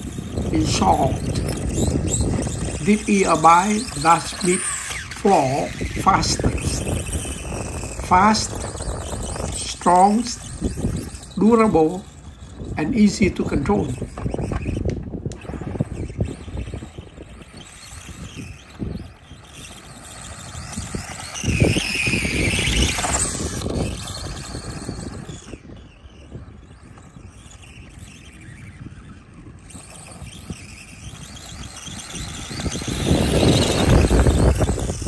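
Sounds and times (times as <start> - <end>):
electric motor whining: 0.0 - 35.0.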